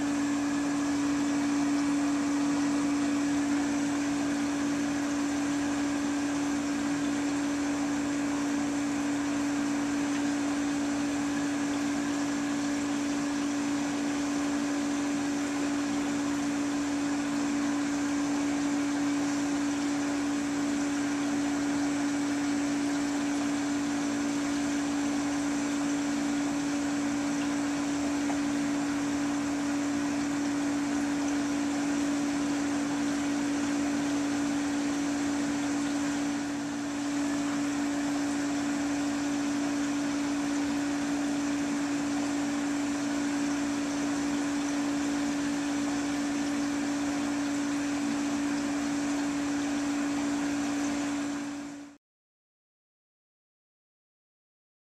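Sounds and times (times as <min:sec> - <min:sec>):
aquarium equipment humming: 0:00.0 - 0:52.0.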